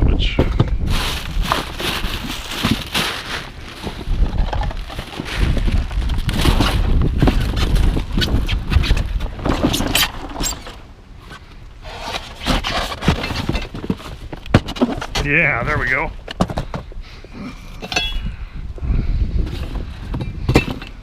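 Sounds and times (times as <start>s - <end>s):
wind rumble on microphone: 0.0s - 11.4s, 13.3s - 21.0s
rummaging knocks and rattles: 0.2s - 17.0s, 19.4s - 21.0s.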